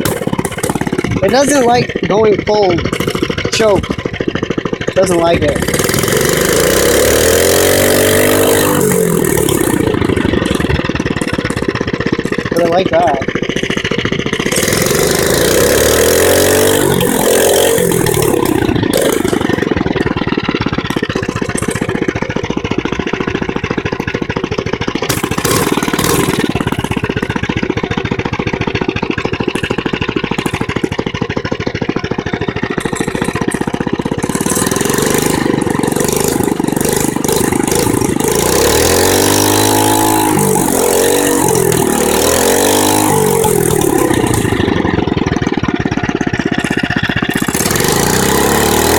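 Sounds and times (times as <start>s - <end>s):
mini bike engine revving and idling: 0.0s - 48.9s.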